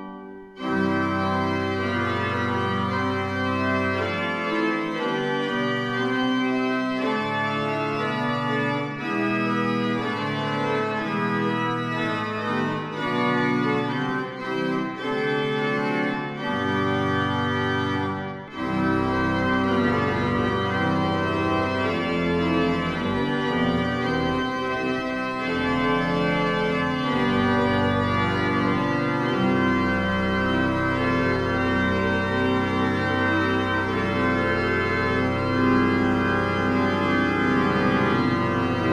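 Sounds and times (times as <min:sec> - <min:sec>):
deep organ pedal bass notes: 0:00.0 - 0:38.9
pipe organ playing chords: 0:00.0 - 0:38.9.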